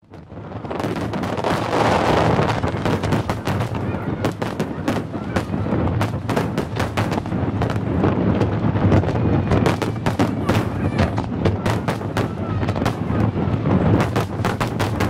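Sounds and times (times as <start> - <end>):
fireworks cracks and crackles: 0.0 - 15.0.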